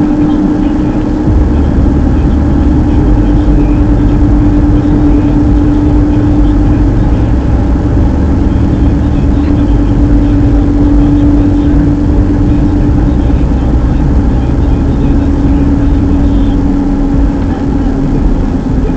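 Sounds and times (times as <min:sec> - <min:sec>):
car engine hum: 0:00.0 - 0:18.9
tyre and road rumble: 0:00.0 - 0:18.9.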